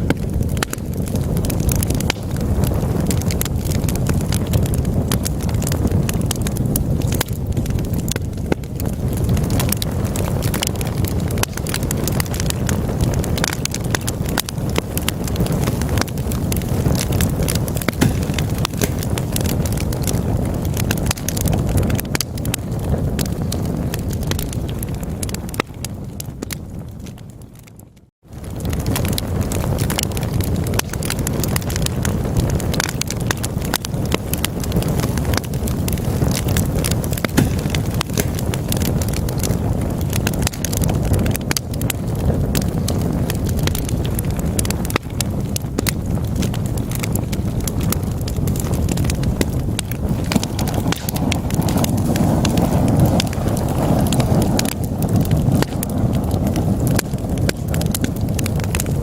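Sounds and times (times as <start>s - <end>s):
fire roaring in a fireplace: 0.0s - 59.0s
logs crackling and popping: 0.0s - 59.0s.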